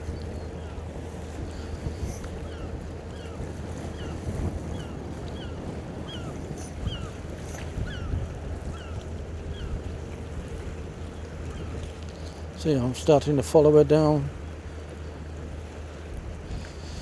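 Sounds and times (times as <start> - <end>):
wind on microphone: 0.0 - 12.6, 15.4 - 17.0.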